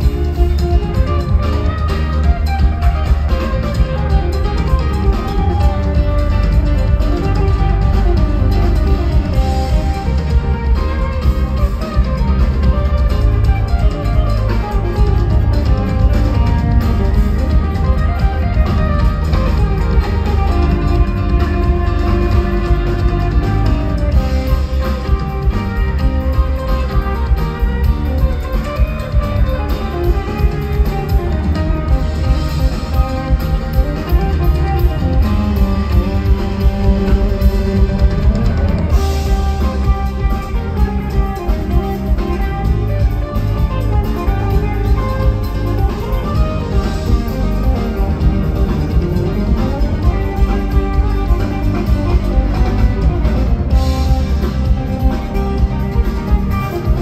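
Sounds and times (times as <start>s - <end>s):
bass: 0.0s - 57.0s
drums with a steady beat: 0.0s - 57.0s
electric guitar: 0.0s - 57.0s
rock band playing live: 0.0s - 57.0s.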